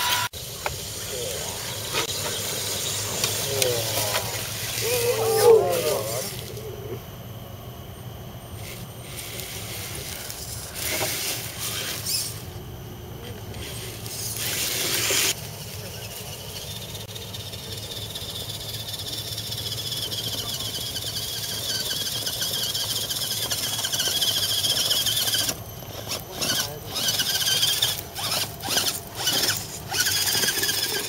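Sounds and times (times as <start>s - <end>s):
rc truck motor whining: 0.0s - 7.0s, 7.9s - 31.0s.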